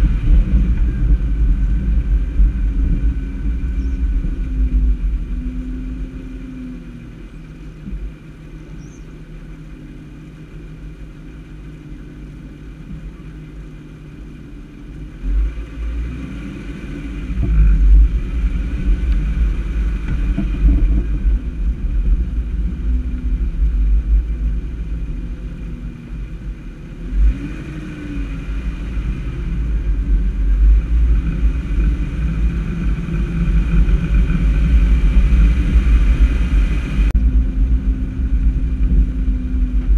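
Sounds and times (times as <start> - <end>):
vehicle engine: 0.0 - 39.9
wind rumble on microphone: 0.0 - 39.9.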